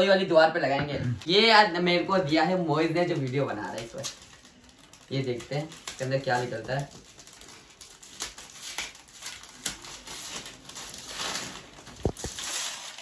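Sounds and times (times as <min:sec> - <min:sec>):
wrapping paper tearing: 0:01.2 - 0:13.0.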